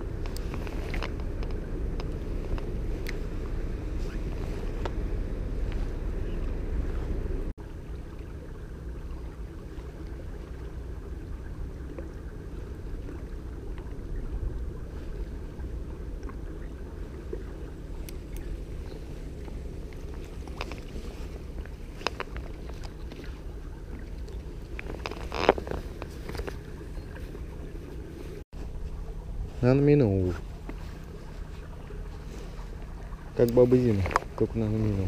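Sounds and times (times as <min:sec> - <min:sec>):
faint steady hum: 0:00.0 - 0:35.0
river water at bank: 0:00.0 - 0:35.0
wind rumble on microphone: 0:00.0 - 0:35.0.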